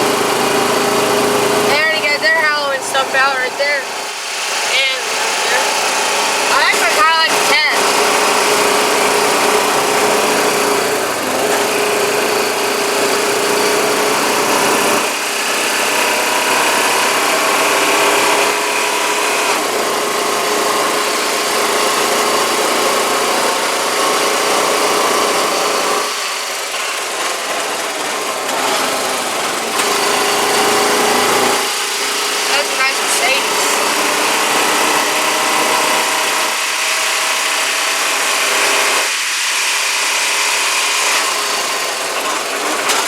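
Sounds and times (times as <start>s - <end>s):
atv engine running: 0.0s - 38.8s.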